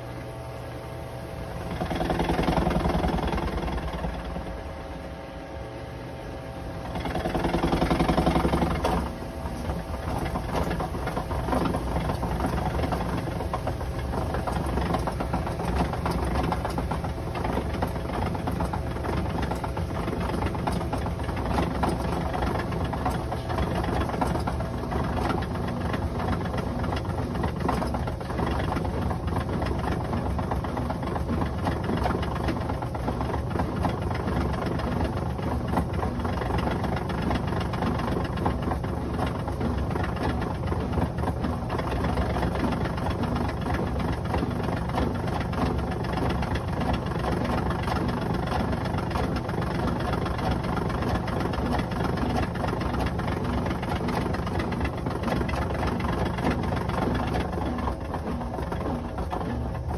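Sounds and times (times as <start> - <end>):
vibration rattle: 0.0 - 59.9
washing machine motor hum: 0.0 - 59.9.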